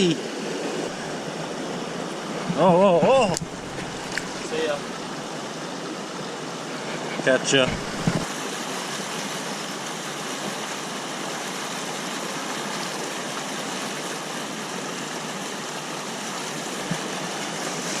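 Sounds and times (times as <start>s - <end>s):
creek water rushing over rocks: 0.0s - 18.0s.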